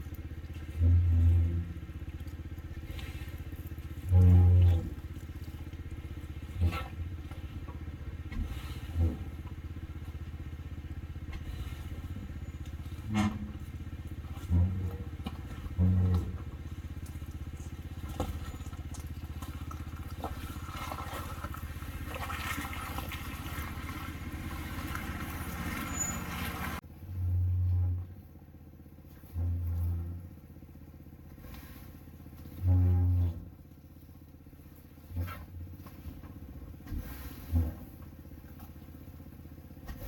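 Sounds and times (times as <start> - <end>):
off-road vehicle engine: 0.0 - 40.0.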